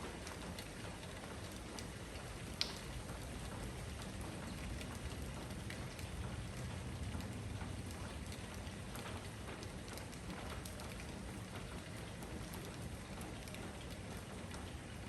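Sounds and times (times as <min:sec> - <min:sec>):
raindrops ticking on surfaces: 0:00.0 - 0:15.0.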